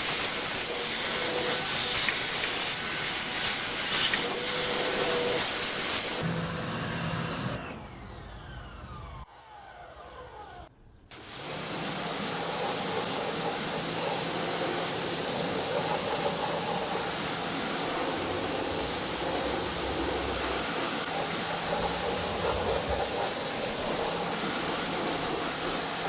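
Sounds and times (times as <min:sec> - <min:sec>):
pressure washer spraying: 0:00.0 - 0:07.6, 0:11.2 - 0:26.0.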